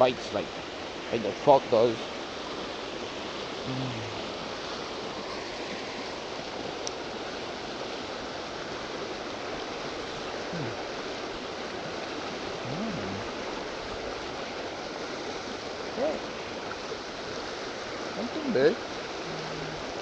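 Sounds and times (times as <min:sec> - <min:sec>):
river current rushing: 0:00.0 - 0:20.0.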